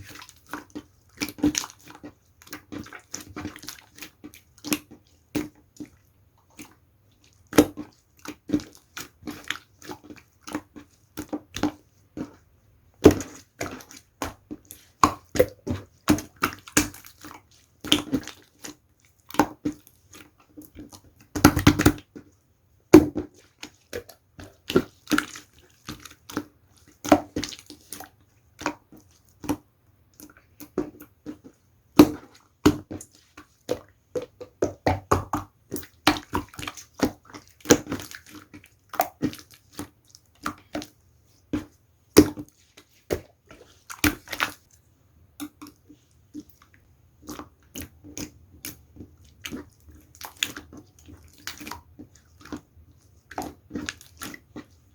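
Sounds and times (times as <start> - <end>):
hands squishing slime: 0.0 - 44.8, 45.4 - 54.9.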